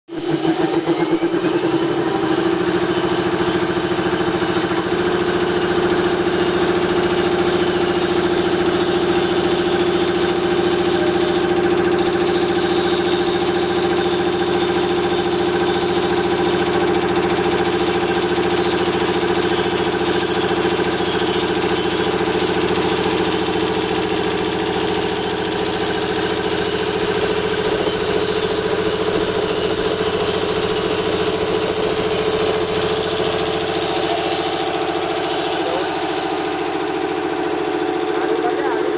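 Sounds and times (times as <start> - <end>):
air compressor running: 0.1 - 38.9.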